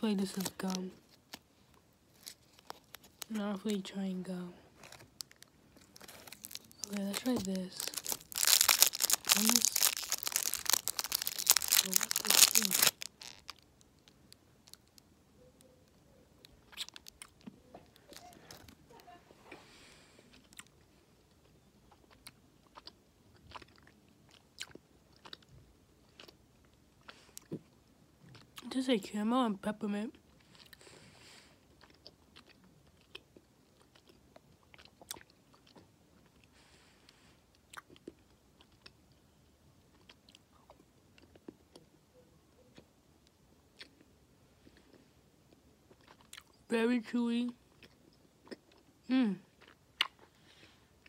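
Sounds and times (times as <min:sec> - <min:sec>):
faint chewing mouth noises: 0:04.7 - 0:28.7, 0:31.6 - 0:46.6, 0:47.6 - 0:51.0.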